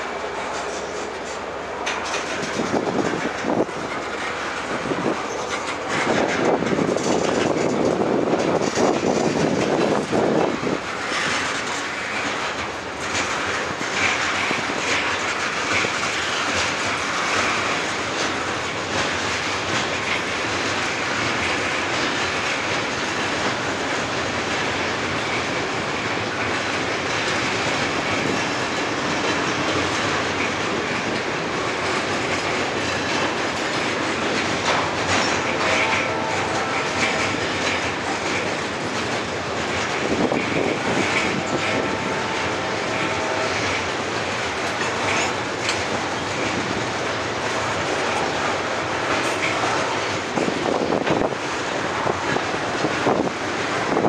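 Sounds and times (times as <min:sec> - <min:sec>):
train wheels clattering on bridge: 0:00.0 - 0:54.0.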